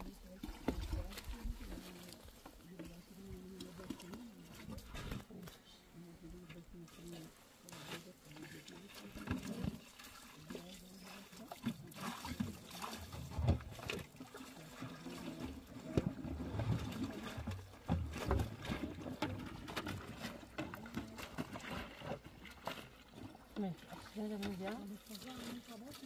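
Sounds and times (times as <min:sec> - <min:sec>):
water sloshing in a basin: 0:00.0 - 0:26.0.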